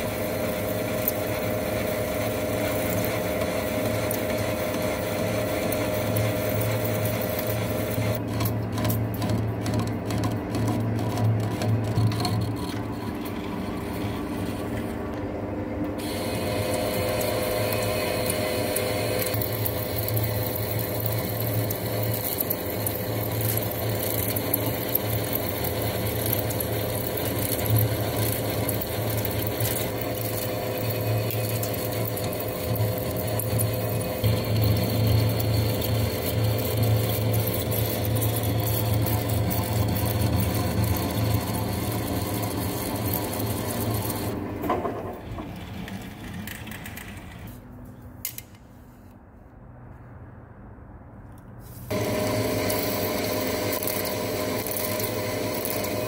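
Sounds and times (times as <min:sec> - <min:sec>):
lathe gearbox humming: 0:00.0 - 0:47.6, 0:51.9 - 0:56.0.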